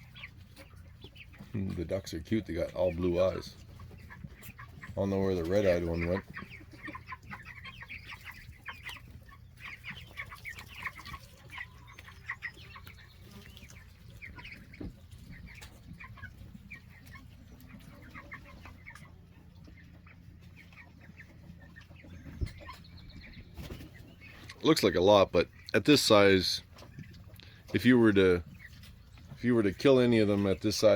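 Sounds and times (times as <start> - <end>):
chicks and ducklings cheeping: 0.0 - 30.9.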